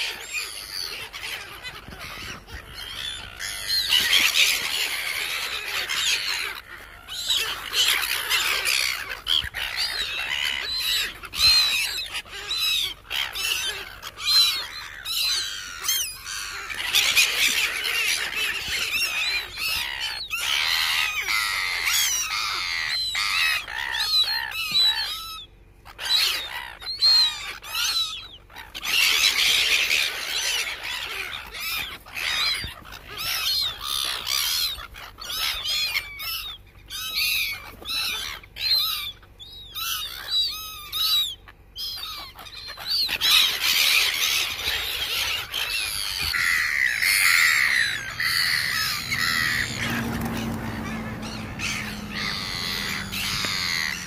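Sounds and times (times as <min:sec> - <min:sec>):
gulls squawking: 0:00.0 - 0:54.0.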